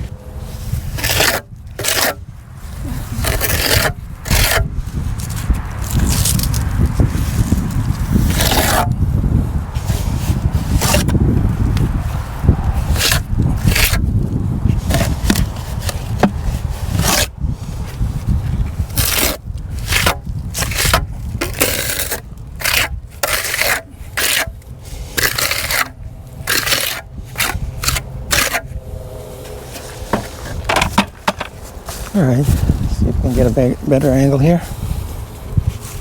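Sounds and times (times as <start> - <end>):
scraping cement patch by hand: 0.0 - 9.1, 9.8 - 28.8, 29.4 - 36.0.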